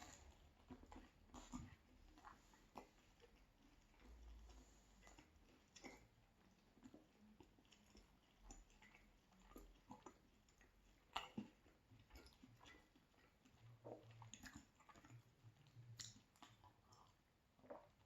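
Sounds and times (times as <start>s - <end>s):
chewing pizza: 0.0s - 18.0s.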